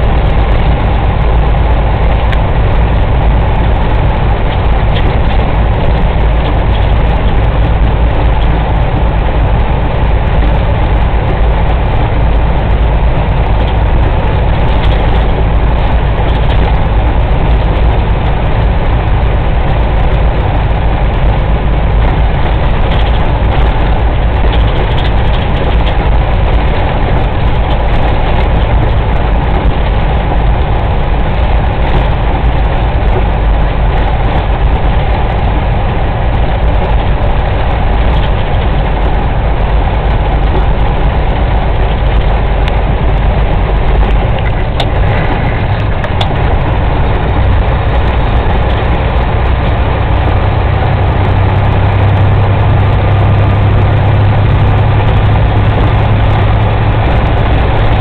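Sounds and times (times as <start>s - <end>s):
road noise: 0.0s - 58.0s
truck diesel engine rumble: 0.0s - 58.0s.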